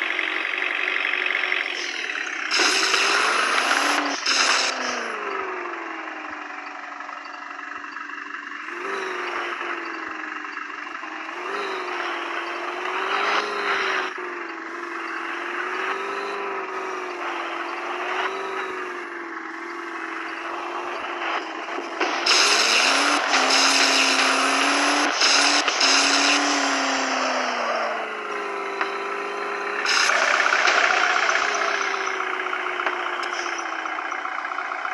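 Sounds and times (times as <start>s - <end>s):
vehicle engine under load: 0.0s - 34.9s.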